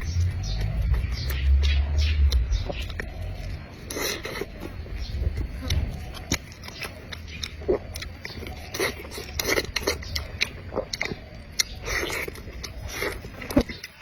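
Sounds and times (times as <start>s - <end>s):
biting and chewing food: 0.0s - 14.0s
mouth clicks: 0.0s - 14.0s.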